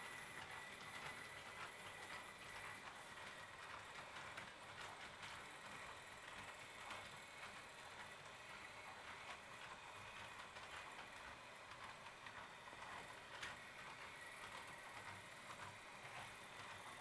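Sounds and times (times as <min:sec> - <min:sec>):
model train wheels clicking: 0:00.0 - 0:17.0.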